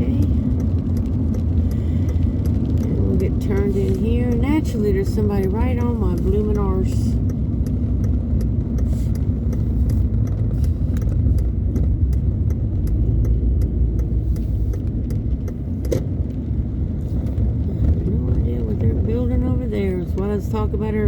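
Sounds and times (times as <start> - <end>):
engine and road rumble: 0.0 - 21.0
light ticks: 0.0 - 21.0.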